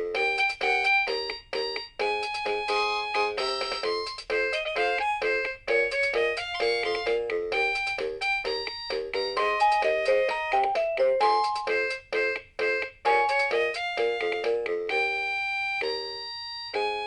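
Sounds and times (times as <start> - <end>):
toy keyboard melody: 0.0 - 17.0.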